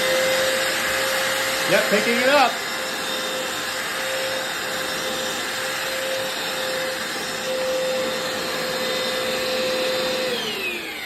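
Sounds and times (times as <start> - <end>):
floor cleaner suction motor whine: 0.0 - 11.0.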